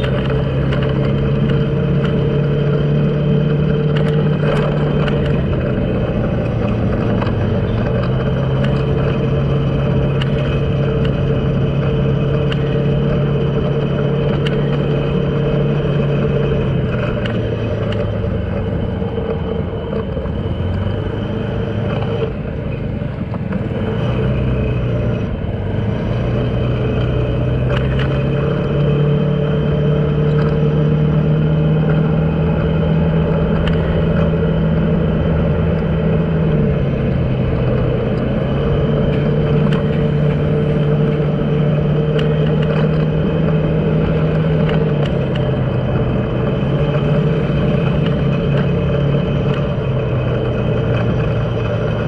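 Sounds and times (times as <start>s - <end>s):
road noise: 0.0s - 52.0s
vehicle engine running: 0.0s - 52.0s.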